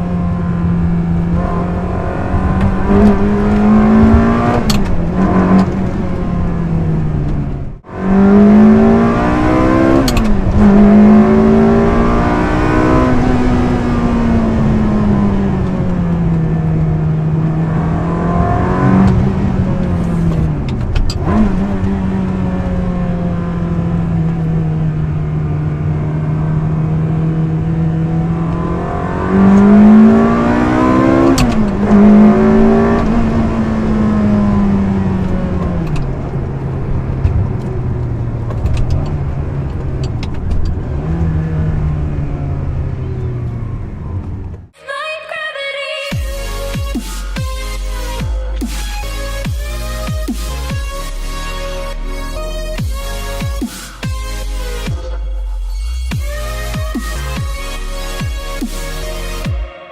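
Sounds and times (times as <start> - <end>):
sports car engine revving: 0.0 - 44.8, 46.1 - 59.9.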